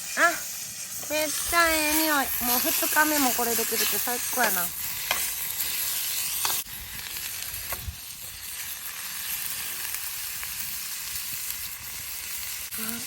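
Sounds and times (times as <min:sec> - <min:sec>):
food sizzling in pan: 0:00.0 - 0:13.0.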